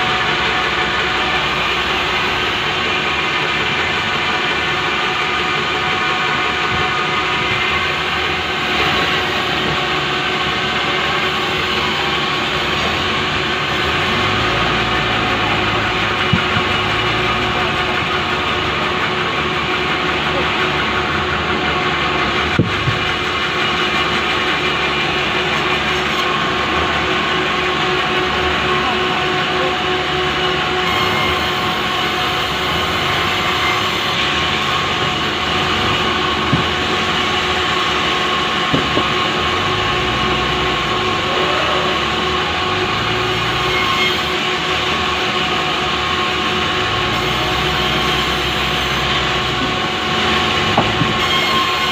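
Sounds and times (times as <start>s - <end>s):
power saw cutting a log: 0.0s - 51.9s.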